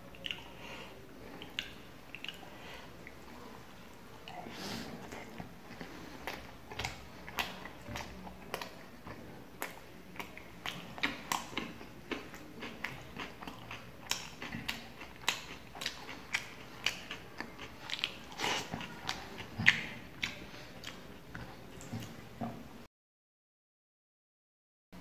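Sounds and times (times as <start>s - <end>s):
person chewing with mouth smacks: 0.0s - 22.6s.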